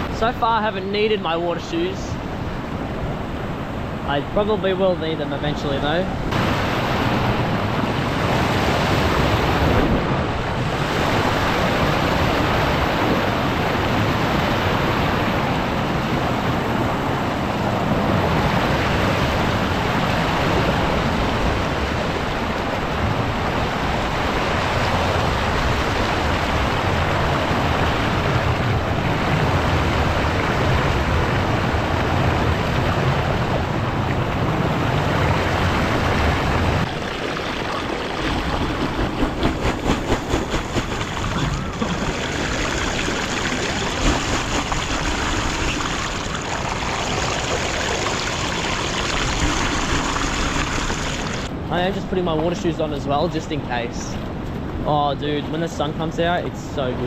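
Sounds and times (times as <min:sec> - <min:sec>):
ocean waves surging over rocks: 0:06.0 - 0:51.7.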